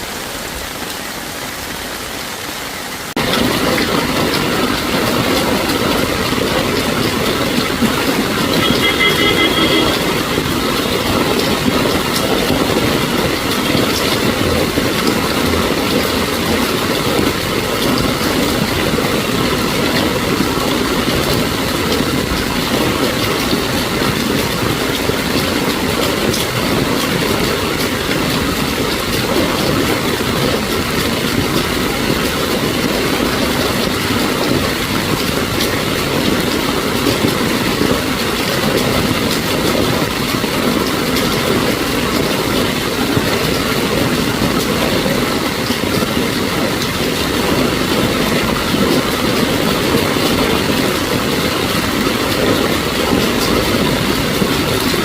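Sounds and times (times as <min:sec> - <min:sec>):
heavy rain: 0:00.0 - 0:55.0
vehicle engines running: 0:03.2 - 0:55.0.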